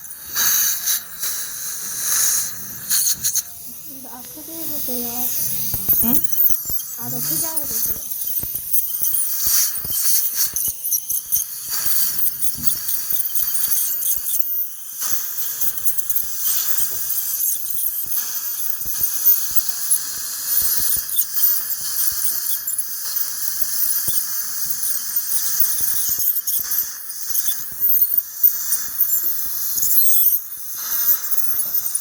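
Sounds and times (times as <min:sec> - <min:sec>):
dental scaler hiss and whine: 0:00.0 - 0:32.0.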